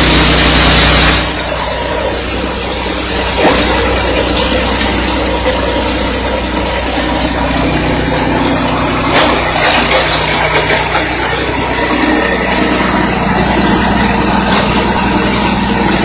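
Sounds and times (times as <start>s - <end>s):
engine drone: 0.0s - 16.0s
mill grinding corn: 0.0s - 16.0s.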